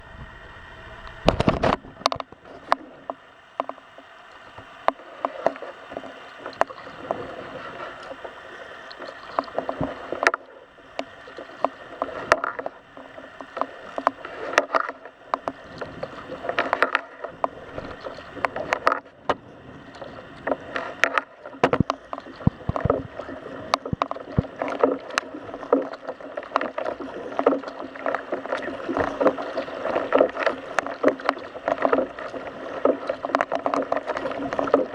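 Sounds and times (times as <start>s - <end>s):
paddle strokes splashing: 0.0s - 34.9s.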